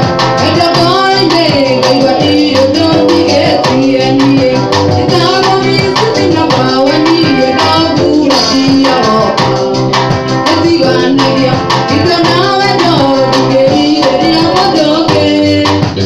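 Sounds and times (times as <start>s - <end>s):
electric guitars: 0.0s - 16.0s
steady beat: 0.0s - 16.0s
woman singing into a microphone: 0.0s - 16.0s.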